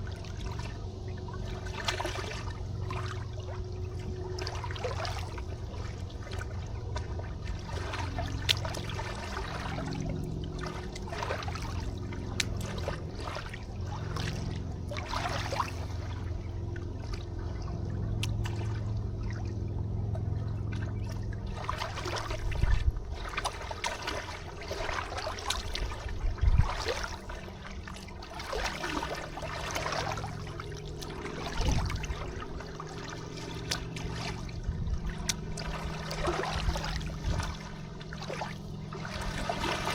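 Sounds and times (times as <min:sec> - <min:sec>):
river water trickling and lapping: 0:00.0 - 0:39.9
steady low rumble: 0:00.0 - 0:39.9.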